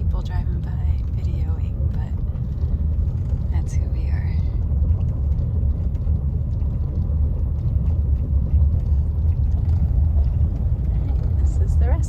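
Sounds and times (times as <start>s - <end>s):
road noise and engine rumble: 0.0s - 12.0s.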